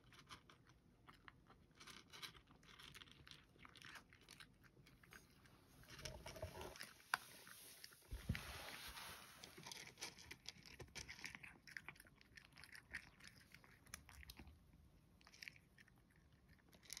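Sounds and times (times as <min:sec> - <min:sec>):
cat crunching dry kibble: 0:00.0 - 0:08.0, 0:09.5 - 0:17.0.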